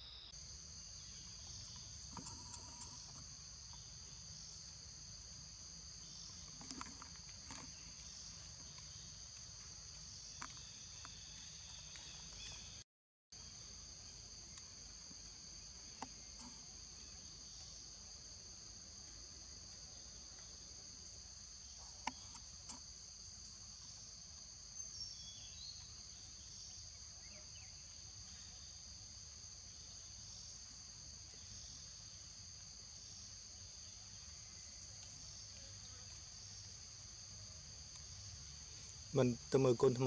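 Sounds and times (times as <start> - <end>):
insects droning: 0.0 - 12.8, 13.4 - 40.0.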